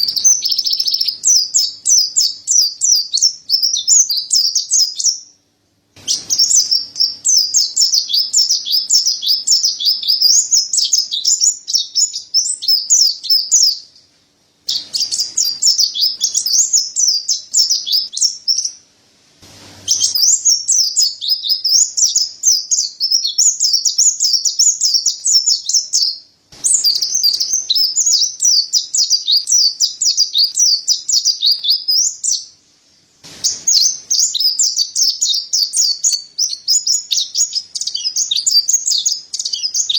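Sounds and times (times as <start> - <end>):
bird twittering song: 0.0 - 5.4, 6.0 - 14.1, 14.7 - 18.8, 19.8 - 32.6, 33.4 - 39.9.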